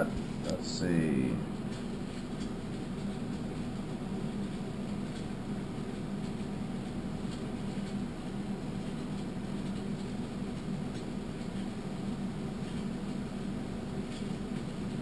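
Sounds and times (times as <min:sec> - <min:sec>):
low room and computer hum: 0:00.0 - 0:15.0.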